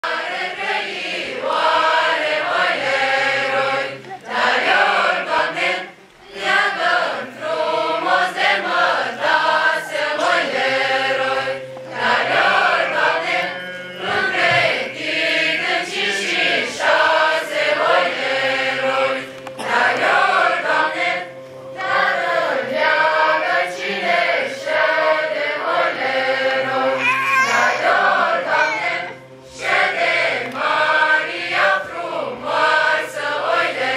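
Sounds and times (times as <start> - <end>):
large choir singing: 0.0 - 33.9.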